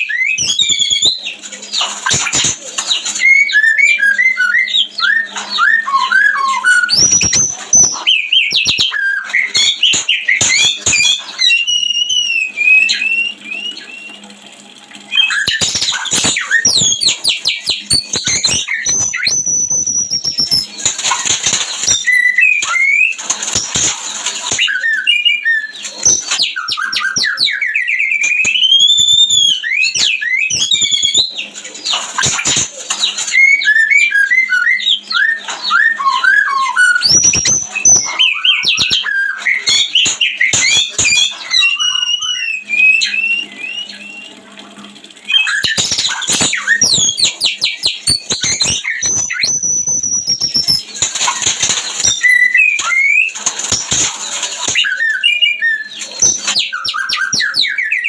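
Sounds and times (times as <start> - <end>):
bird singing whistled phrases: 0.0 - 14.3, 15.1 - 44.4, 45.2 - 54.0, 54.6 - 58.0.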